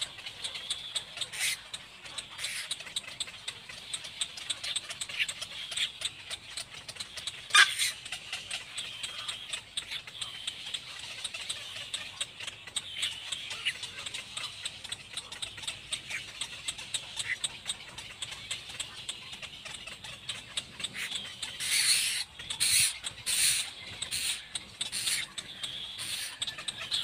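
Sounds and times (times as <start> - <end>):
birds calling: 0.0 - 27.0
rapid ticking bird calls: 0.0 - 27.0.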